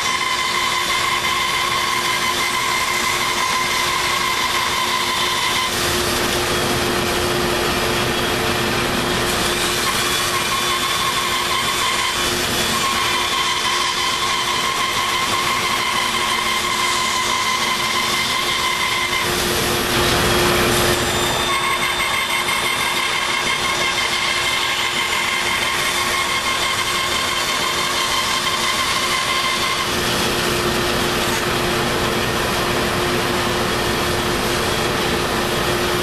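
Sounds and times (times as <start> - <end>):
bandsaw cutting wood: 0.0 - 36.0.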